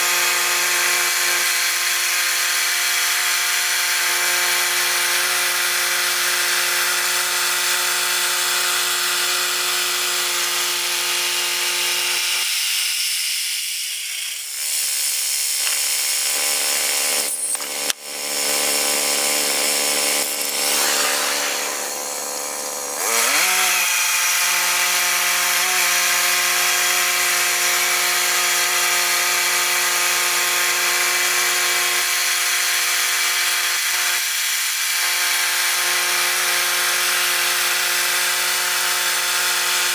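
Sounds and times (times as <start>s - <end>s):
sawmill engine cutting log: 0.0s - 39.9s.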